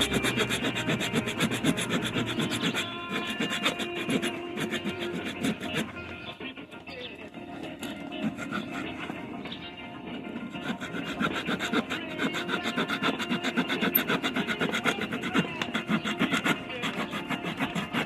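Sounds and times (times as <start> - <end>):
saw blade sawing wood: 0.0 - 6.2, 7.5 - 9.4, 10.1 - 18.0.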